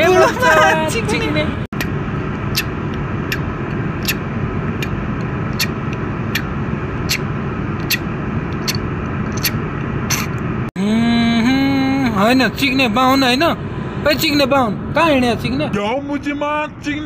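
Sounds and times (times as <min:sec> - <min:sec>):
steady rumbling noise: 0:00.0 - 0:17.0.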